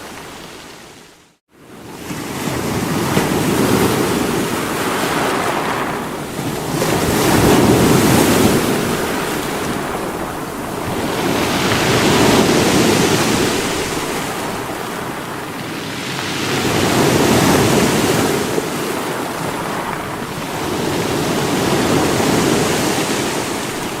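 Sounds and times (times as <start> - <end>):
waves breaking against rocks: 1.7 - 24.0.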